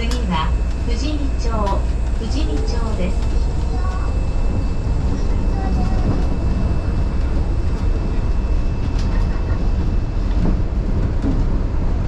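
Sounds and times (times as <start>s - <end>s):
monorail car rumbling: 0.0s - 12.0s.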